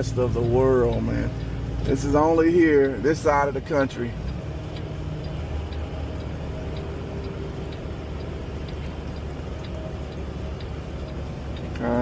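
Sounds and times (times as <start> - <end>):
faint even ticking: 0.0 - 12.0
road noise: 0.0 - 12.0
truck engine rumble: 0.0 - 12.0.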